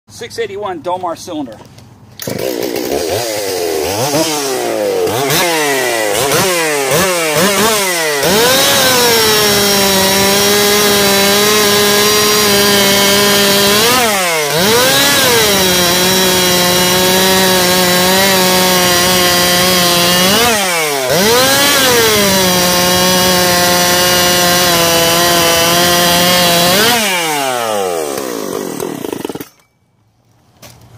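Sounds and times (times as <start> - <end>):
chainsaw cutting through log: 2.2 - 29.7.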